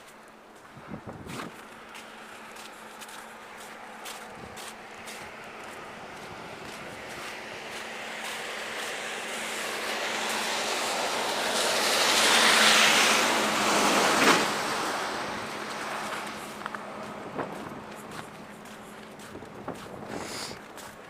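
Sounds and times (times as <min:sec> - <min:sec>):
car tyres on snowy road: 0:00.0 - 0:21.0.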